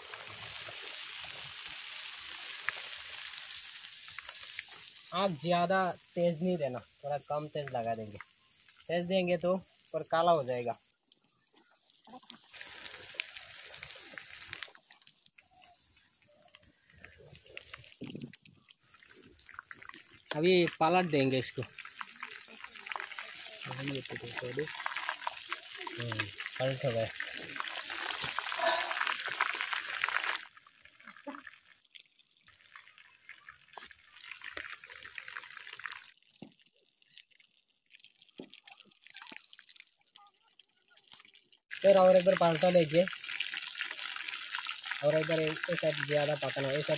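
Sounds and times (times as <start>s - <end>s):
oil sizzling and popping: 0.0s - 46.9s.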